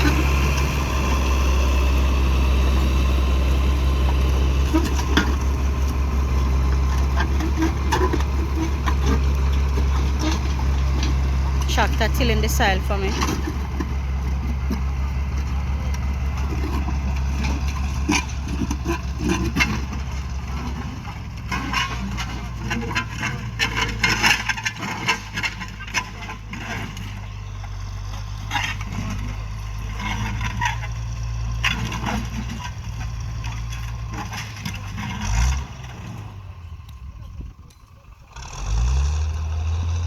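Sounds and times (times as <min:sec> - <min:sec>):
tractor diesel engine: 0:00.0 - 0:40.0
cracks and crunches of ground: 0:03.6 - 0:12.1, 0:13.0 - 0:40.0.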